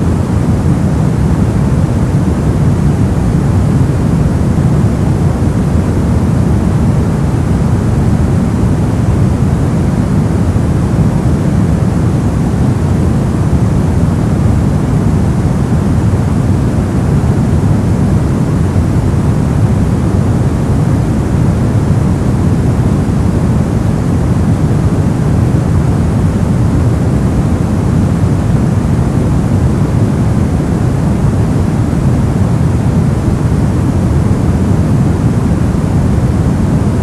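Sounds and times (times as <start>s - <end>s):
brown noise hiss: 0.0s - 37.0s.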